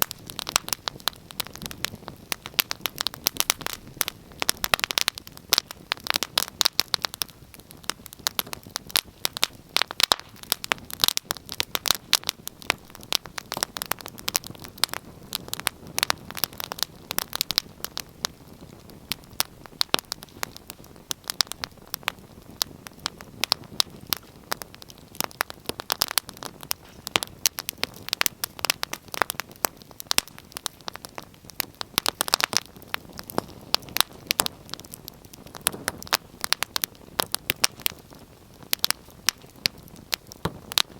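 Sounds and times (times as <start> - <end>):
low steady hiss: 0.0 - 40.9
wood fire crackling: 0.0 - 40.9.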